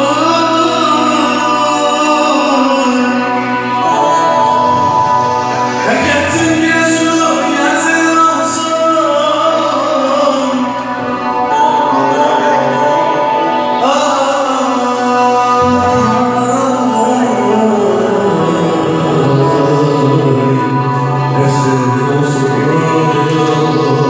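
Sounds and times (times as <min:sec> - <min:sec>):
folk song with singing voice: 0:00.0 - 0:24.0.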